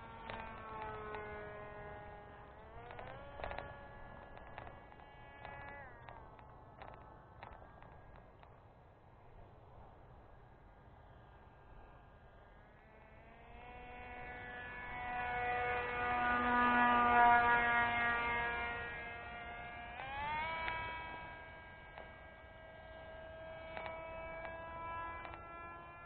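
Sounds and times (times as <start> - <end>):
model plane motor whining: 0.0 - 8.6, 11.1 - 26.0.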